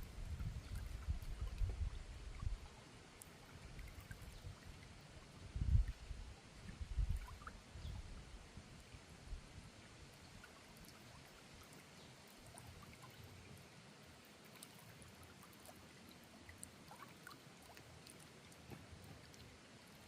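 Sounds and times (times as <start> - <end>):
flowing water: 0.0 - 20.0.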